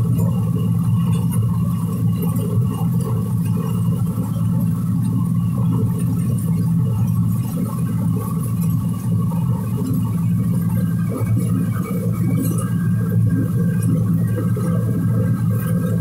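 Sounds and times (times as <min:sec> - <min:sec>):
combine harvester engine hum: 0:00.0 - 0:16.0
high machinery whine: 0:00.0 - 0:16.0.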